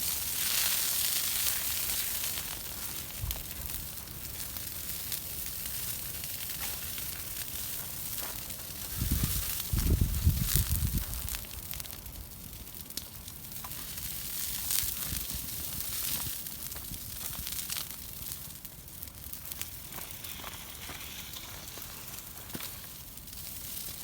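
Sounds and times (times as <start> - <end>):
bonfire crackling and hissing: 0.0 - 24.0
sharp pops from fire: 0.0 - 24.0.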